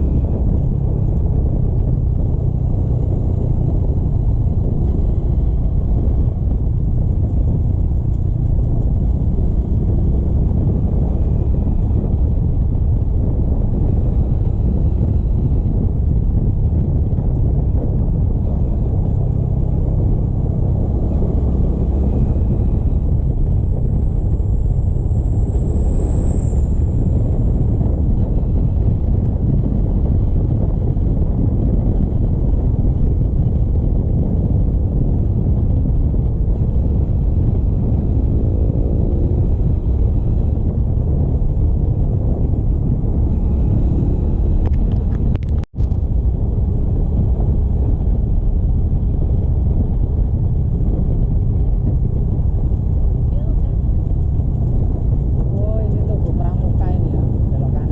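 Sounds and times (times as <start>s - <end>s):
motorcycle engine: 0.0s - 57.9s
road noise: 0.0s - 57.9s
wind on microphone: 0.0s - 57.9s.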